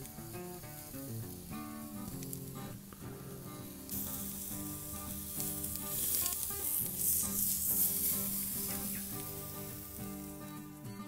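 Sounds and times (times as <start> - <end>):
tongs turning meat: 0.0 - 10.5
beef roast sizzling on grill: 0.0 - 11.0.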